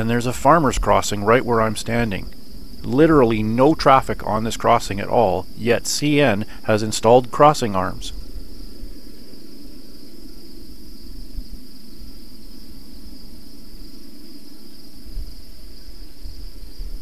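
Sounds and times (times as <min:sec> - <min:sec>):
insects chirring: 0:00.0 - 0:17.0
steady low rumble: 0:00.0 - 0:17.0.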